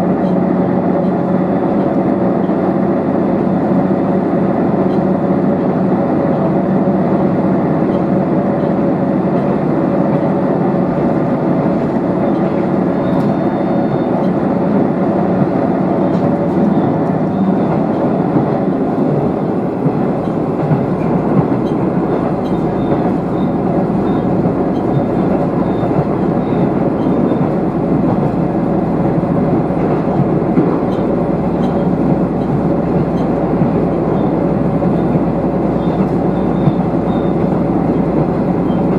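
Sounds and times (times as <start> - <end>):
train engine drone: 0.0 - 38.9
wheels rumbling on rail: 0.0 - 38.9.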